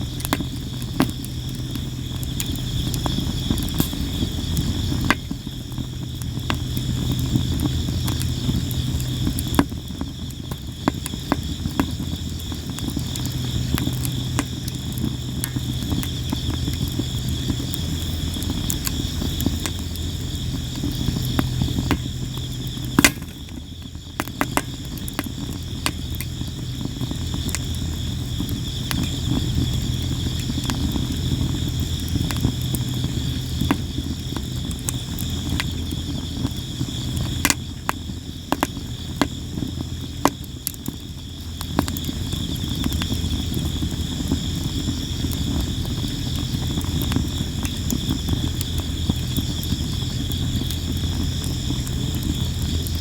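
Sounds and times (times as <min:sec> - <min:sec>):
campfire crackling and popping: 0:00.0 - 0:53.0
crickets chirping: 0:00.0 - 0:53.0.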